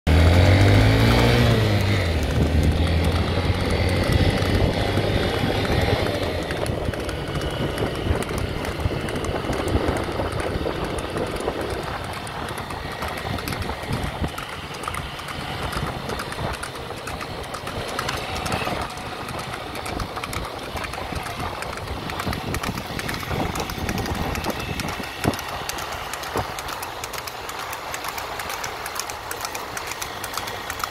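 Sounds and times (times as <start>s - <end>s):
motor scooter engine hum: 0.1s - 30.9s
road noise: 0.1s - 30.9s
wind buffeting: 0.1s - 30.9s.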